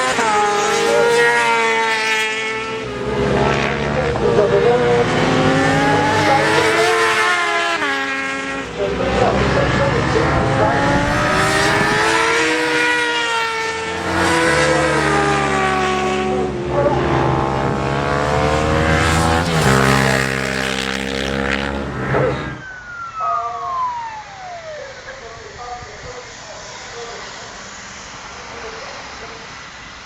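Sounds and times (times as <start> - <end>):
motorcycle passing by: 0.0 - 24.8
racing motorcycle engines revving: 0.0 - 29.7.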